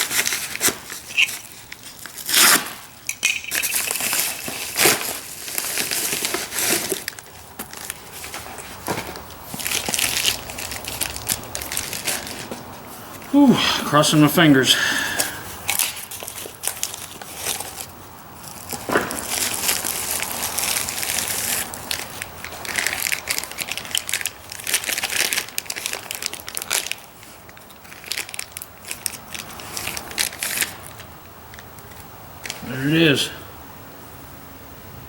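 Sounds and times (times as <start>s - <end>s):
plastic packaging crinkling: 0.0s - 13.3s, 15.5s - 32.7s.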